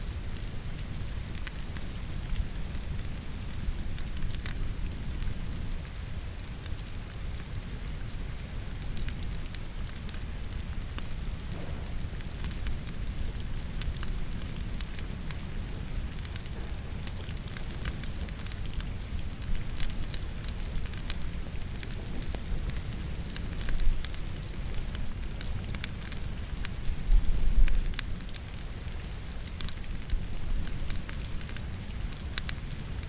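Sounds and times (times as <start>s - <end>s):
logs crackling in a fireplace: 0.0s - 33.0s.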